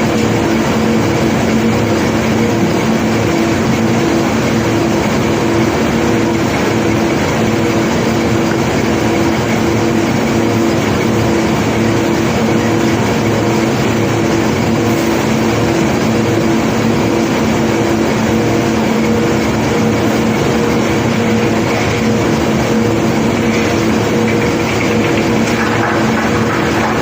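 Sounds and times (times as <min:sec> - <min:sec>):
machinery engine drone: 0:00.0 - 0:27.0
steady humming tones: 0:00.0 - 0:27.0.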